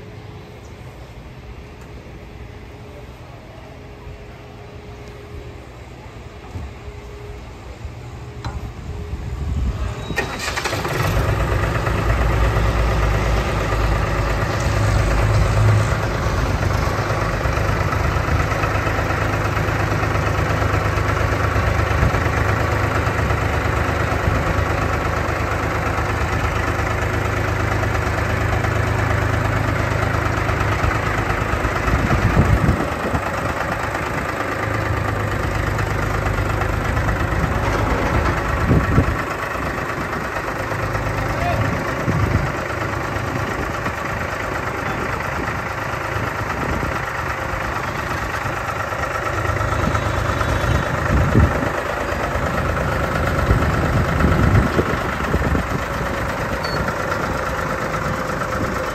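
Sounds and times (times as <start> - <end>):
spray machine engine idling: 10.2 - 58.9.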